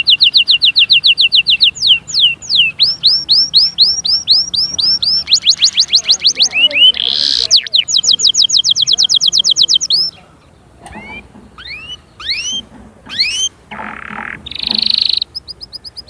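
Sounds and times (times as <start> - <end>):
songbird trilling: 0.0 - 16.0.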